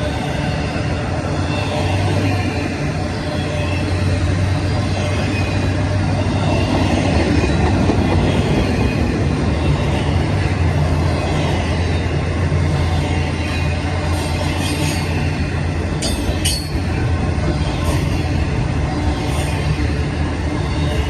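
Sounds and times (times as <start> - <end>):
diesel locomotive drone: 0.0 - 21.0
steel wheels on rail: 0.0 - 21.0.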